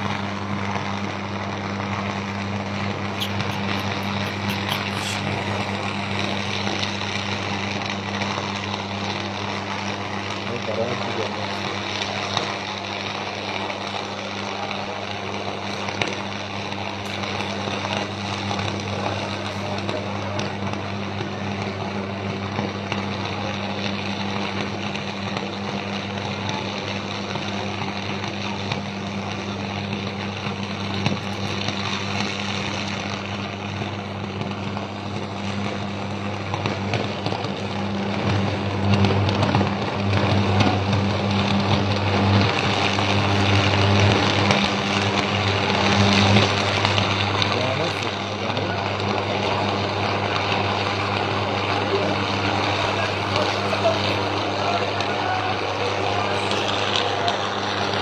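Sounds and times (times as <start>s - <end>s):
electrical arc buzzing and crackling: 0.0s - 58.0s.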